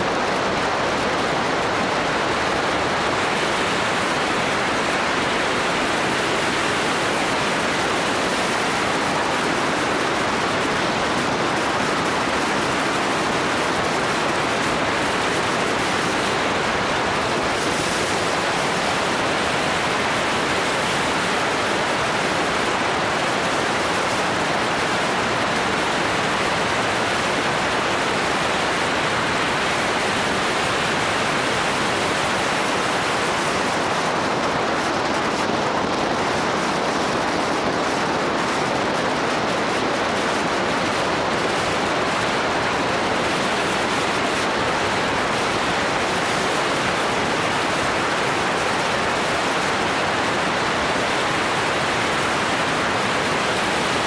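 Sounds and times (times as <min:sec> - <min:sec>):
wind on microphone: 0:00.0 - 0:54.0.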